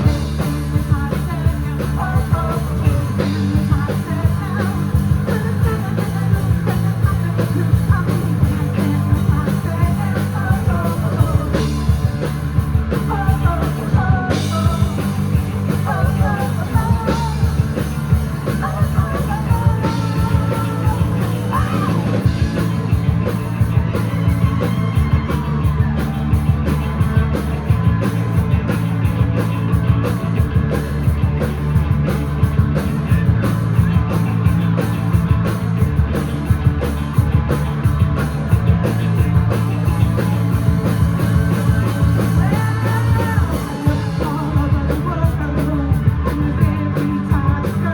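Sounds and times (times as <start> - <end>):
bending lead guitar line: 0.0 - 47.9
live rock band playing: 0.0 - 47.9.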